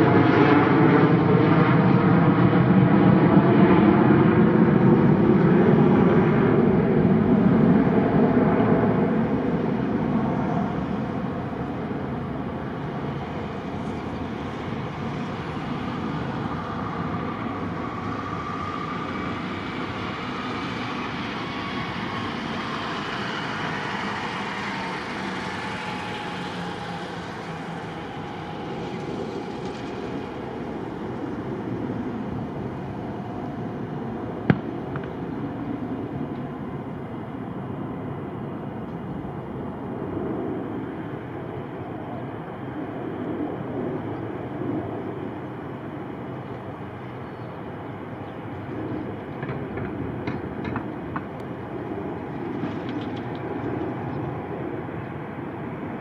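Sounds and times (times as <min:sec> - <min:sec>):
aircraft engine rumble: 0:00.0 - 0:56.0
faint falling whine: 0:00.0 - 0:56.0.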